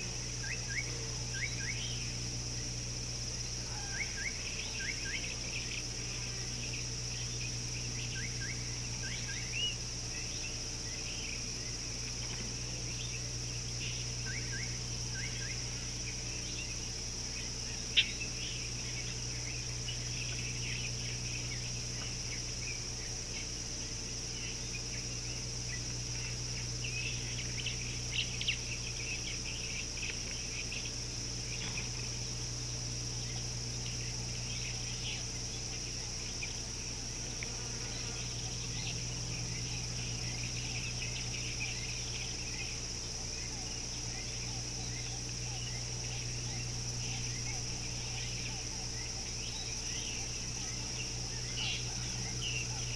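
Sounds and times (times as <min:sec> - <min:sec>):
high insect drone: 0:00.0 - 0:52.9
low steady hum: 0:00.0 - 0:52.9.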